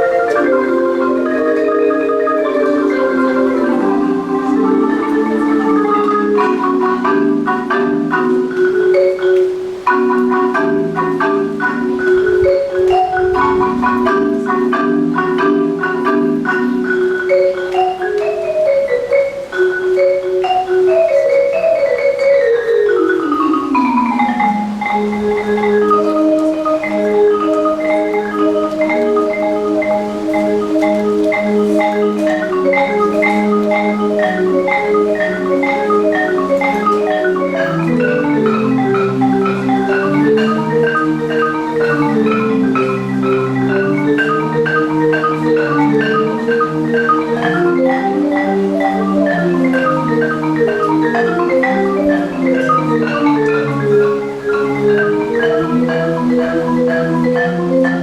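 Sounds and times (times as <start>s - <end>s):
marimba playing: 0.0s - 58.0s.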